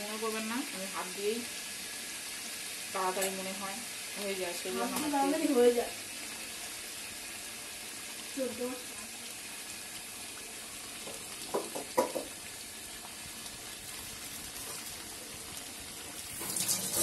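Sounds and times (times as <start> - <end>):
curry sizzling in oil: 0.0 - 17.0.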